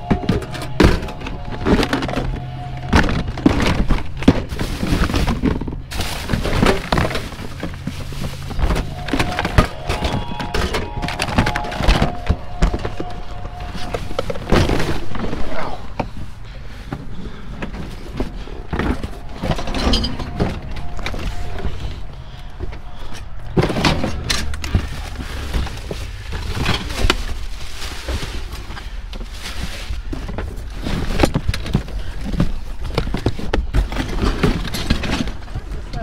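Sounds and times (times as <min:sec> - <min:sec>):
junk being rummaged through: 0:00.0 - 0:36.0.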